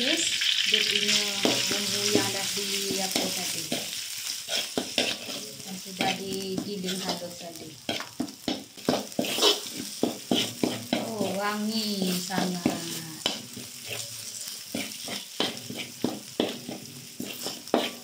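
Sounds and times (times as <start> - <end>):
spice paste sizzling in oil: 0.0 - 18.0
metal ladle scraping and knocking pan: 1.1 - 18.0.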